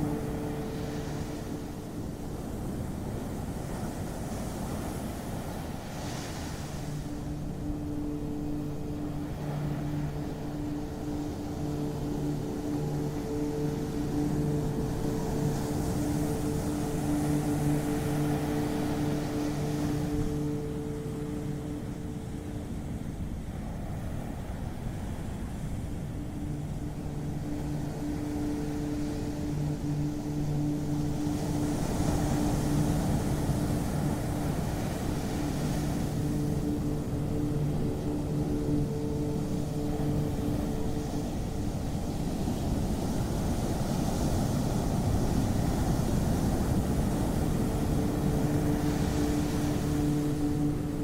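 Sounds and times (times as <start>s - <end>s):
ocean surf rumble: 0.0s - 51.0s.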